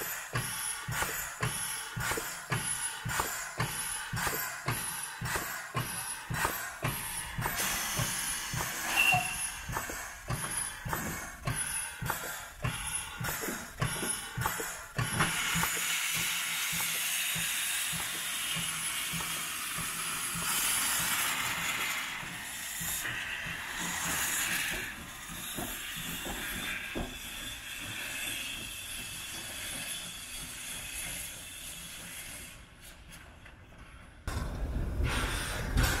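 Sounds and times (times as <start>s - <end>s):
steam locomotive hissing: 0.0s - 33.2s, 34.3s - 36.0s.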